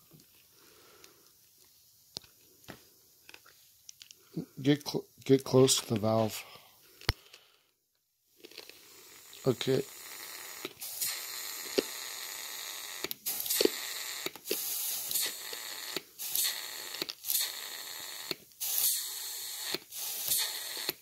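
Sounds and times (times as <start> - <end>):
steady hiss: 0.0 - 7.0, 8.6 - 17.6, 18.4 - 21.0.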